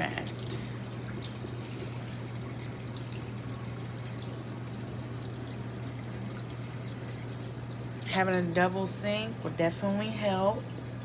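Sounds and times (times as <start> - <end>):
water pouring from drain hose: 0.0 - 9.6
steady low hum: 0.0 - 11.0.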